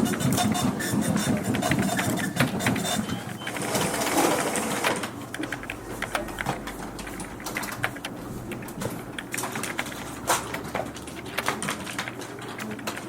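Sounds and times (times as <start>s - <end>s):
printer mechanical rattle: 0.0s - 13.0s.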